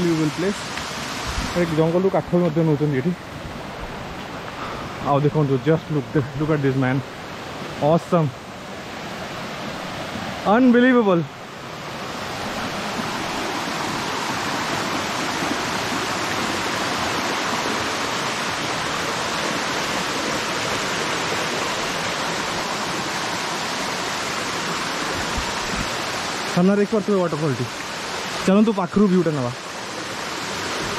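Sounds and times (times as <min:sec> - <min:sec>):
waterfall rushing over rock: 0:00.0 - 0:30.9.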